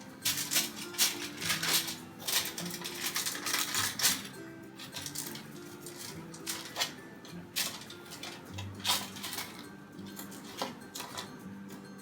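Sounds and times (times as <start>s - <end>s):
utensil clinking on baking tray: 0.2s - 11.4s.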